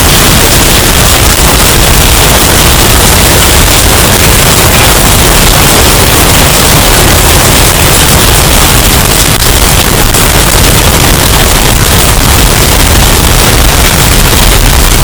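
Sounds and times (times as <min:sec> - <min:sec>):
distorted hurricane wind: 0:00.0 - 0:15.0.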